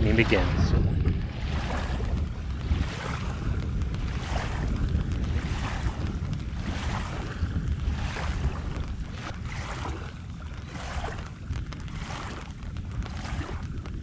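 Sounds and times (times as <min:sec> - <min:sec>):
waves lapping against shore: 0:00.0 - 0:14.0
wind buffeting microphone: 0:00.0 - 0:14.0.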